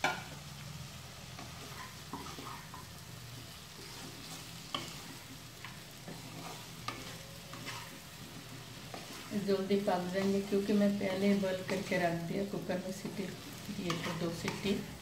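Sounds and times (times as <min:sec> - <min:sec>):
light frying sizzle: 0:00.0 - 0:15.0
spatula scraping and knocking pan: 0:01.3 - 0:15.0.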